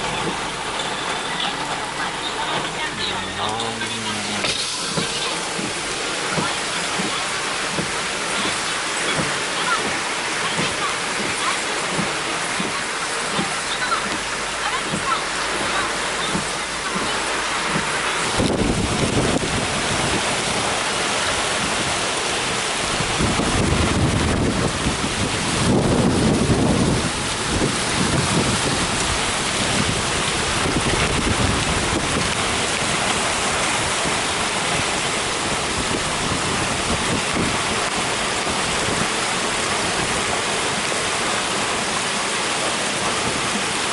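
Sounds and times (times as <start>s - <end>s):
floodwater rushing: 0.0s - 43.9s
heavy rain: 0.0s - 43.9s.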